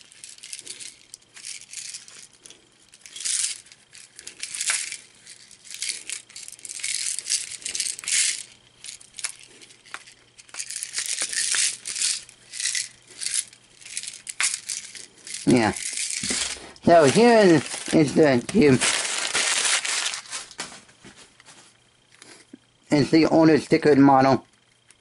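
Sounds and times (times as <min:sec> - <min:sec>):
plastic puzzle rattling: 0:00.0 - 0:20.4.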